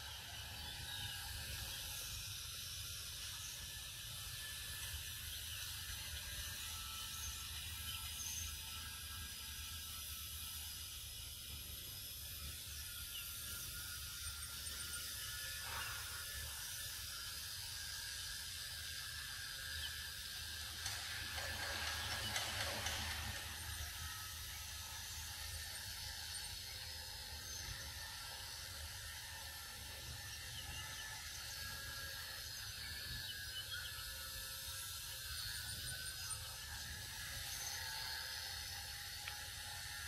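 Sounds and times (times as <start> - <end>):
forest ambience hiss: 0.0 - 40.0.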